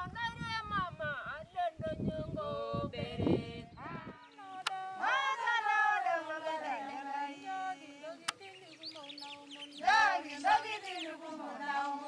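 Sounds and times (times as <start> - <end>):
women singing: 0.0 - 12.0.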